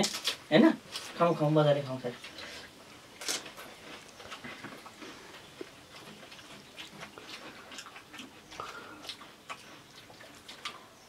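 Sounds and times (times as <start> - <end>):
crisp shells cracking and chewing: 0.0 - 1.2, 2.2 - 10.9.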